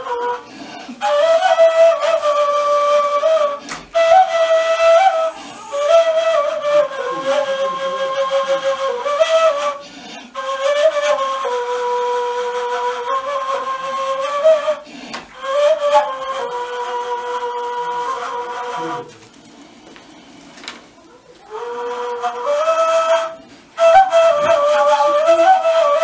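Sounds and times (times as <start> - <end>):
flute playing slow melody: 0.0 - 19.1, 21.4 - 26.0.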